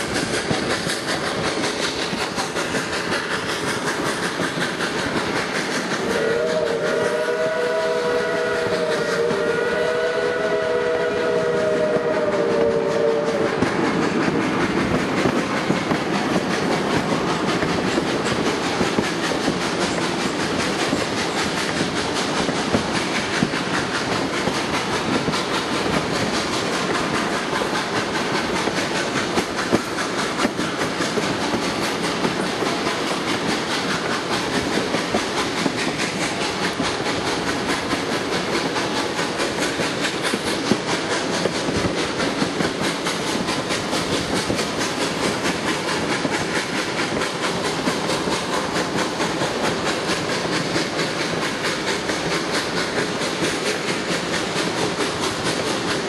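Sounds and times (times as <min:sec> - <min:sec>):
train rush and rumble: 0:00.0 - 0:56.0
train wheels clicking on rails: 0:00.0 - 0:56.0.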